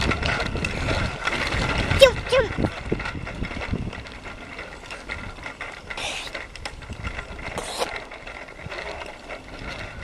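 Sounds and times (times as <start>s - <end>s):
bicycle freewheel ticking: 0.0s - 10.0s.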